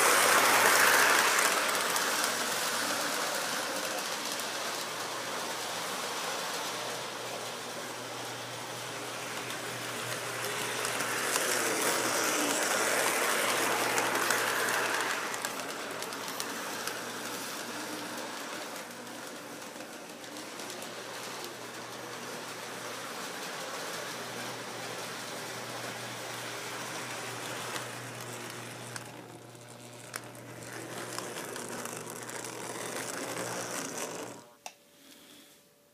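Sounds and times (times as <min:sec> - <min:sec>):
model train wheels rattling: 0:00.0 - 0:34.5.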